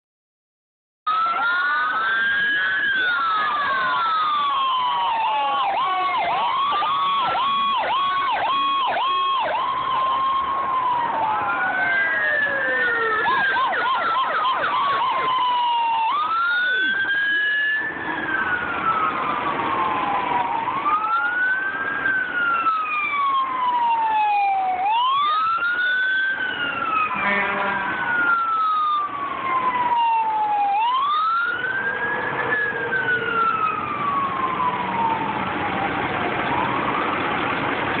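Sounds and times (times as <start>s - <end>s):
emergency vehicle sirens: 1.1s - 38.0s.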